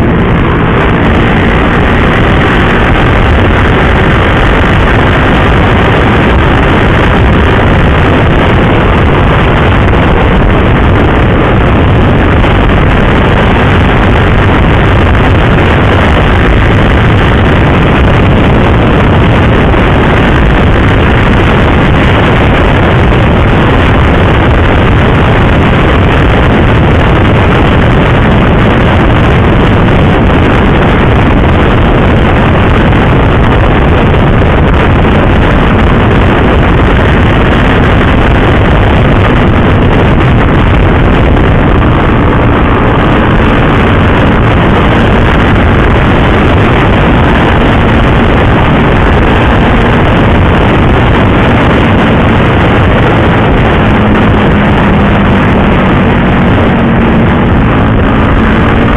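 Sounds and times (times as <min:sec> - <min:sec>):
motorcycle engine drone: 0:00.0 - 0:58.9
wind rush on microphone: 0:00.0 - 0:58.9.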